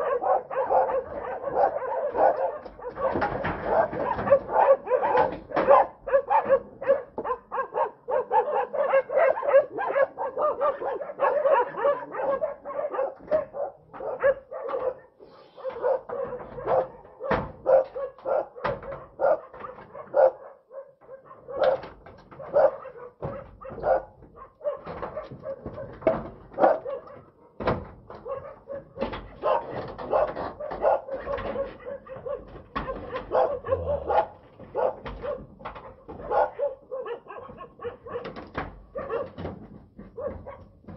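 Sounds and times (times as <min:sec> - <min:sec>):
dog yipping: 0:00.0 - 0:21.8, 0:22.4 - 0:25.9, 0:26.6 - 0:27.5, 0:28.2 - 0:38.3, 0:39.0 - 0:39.3
dog barking rapidly: 0:00.0 - 0:39.4, 0:40.0 - 0:40.8.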